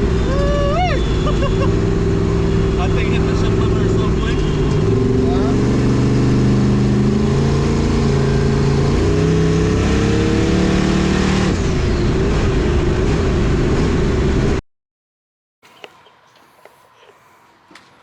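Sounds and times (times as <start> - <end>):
pickup truck engine revving: 0.0 - 14.6.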